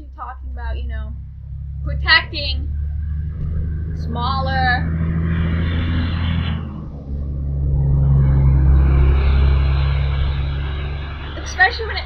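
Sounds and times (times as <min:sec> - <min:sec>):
tractor engine passing by: 0:00.0 - 0:12.0.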